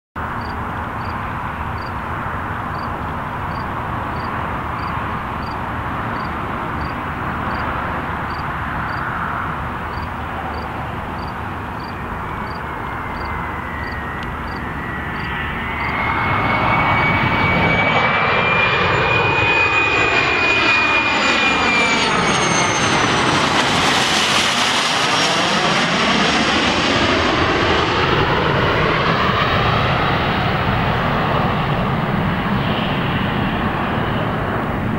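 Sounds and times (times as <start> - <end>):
high turbine whine: 0.2 - 34.9
jet engine rumble: 0.2 - 34.9.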